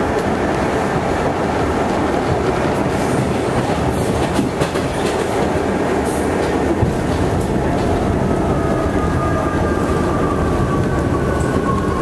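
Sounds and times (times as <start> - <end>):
rumble of wheels on rail: 0.0 - 12.0
wheels clickety-clack on rail joints: 0.0 - 12.0.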